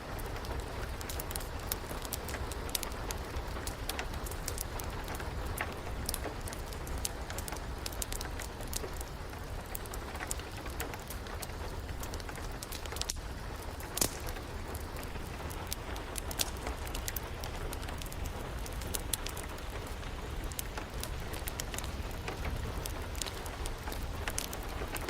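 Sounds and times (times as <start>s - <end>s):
rain hissing: 0.0s - 25.0s
wood fire crackling and popping: 0.0s - 25.0s.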